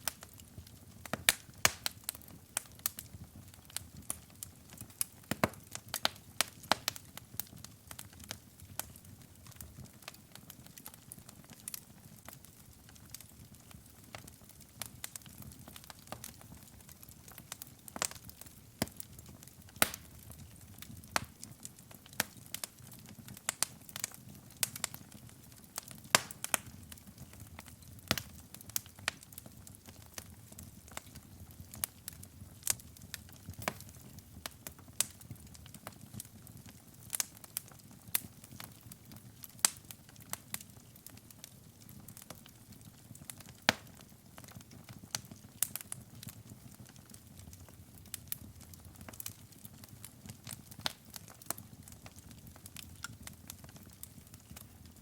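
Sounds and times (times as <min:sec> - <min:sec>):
burning logs popping and crackling: 0:00.0 - 0:55.0.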